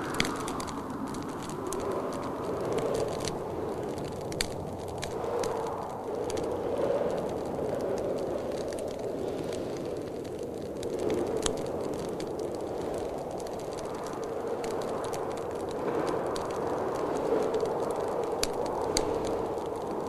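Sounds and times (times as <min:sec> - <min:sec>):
blizzard wind rushing: 0:00.0 - 0:20.0
wood fire crackling and popping: 0:00.0 - 0:20.0.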